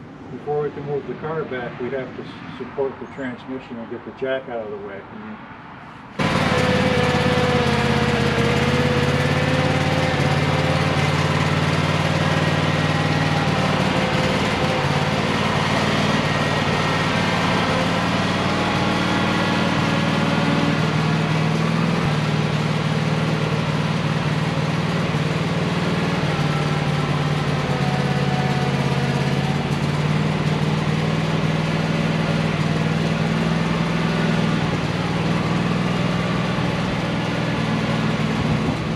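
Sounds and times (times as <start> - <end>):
small engine running: 6.2 - 38.9.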